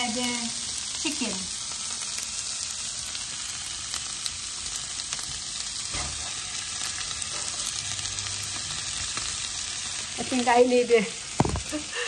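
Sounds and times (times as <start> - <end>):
food sizzling in a frying pan: 0.0 - 12.0
oil crackling: 0.0 - 12.0.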